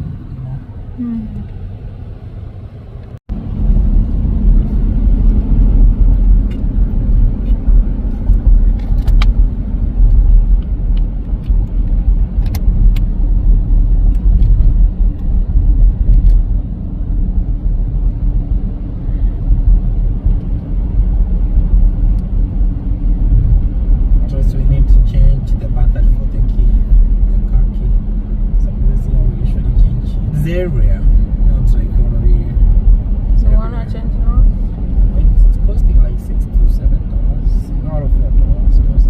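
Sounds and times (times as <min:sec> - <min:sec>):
car driving on road: 0:00.0 - 0:39.0.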